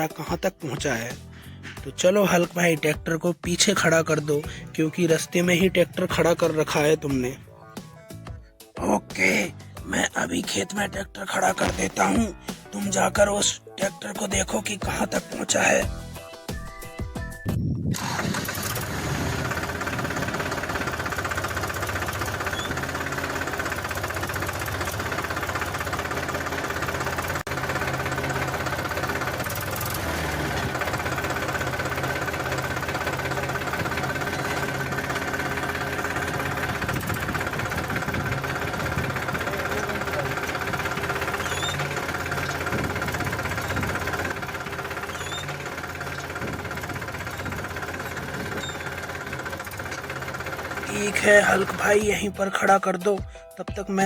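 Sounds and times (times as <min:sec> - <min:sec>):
tractor engine chugging: 0:00.0 - 0:54.0.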